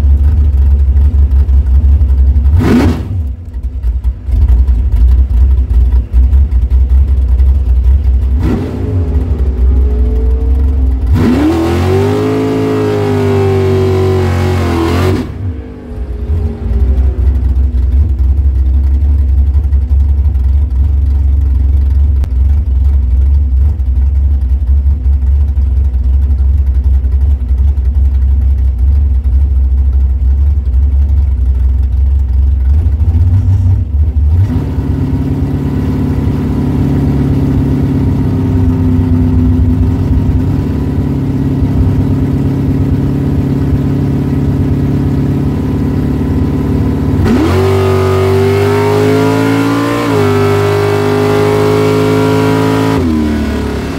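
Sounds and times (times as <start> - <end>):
car engine revving and idling: 0.0 - 53.9.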